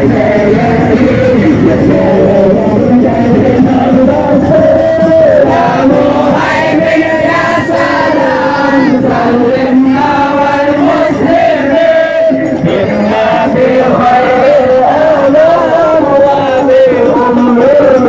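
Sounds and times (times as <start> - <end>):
crowd background noise: 0.0 - 18.0
many voices singing together: 0.0 - 18.0.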